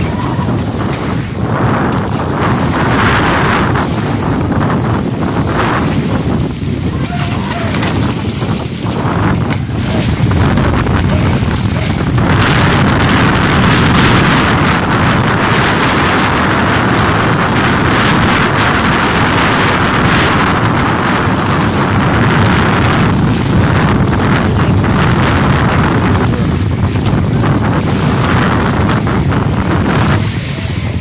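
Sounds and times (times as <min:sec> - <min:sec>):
waves washing against rocks: 0:00.0 - 0:31.0
wind buffeting microphone: 0:00.0 - 0:31.0.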